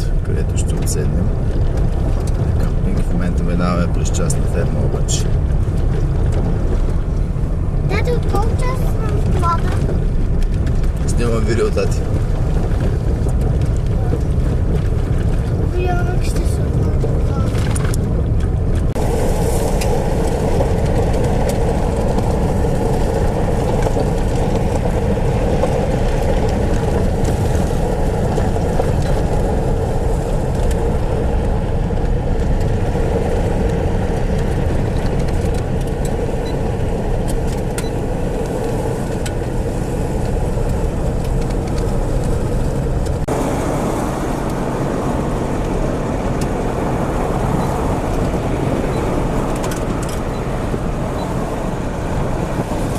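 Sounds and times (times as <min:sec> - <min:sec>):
vehicle engine: 0:00.0 - 0:52.9.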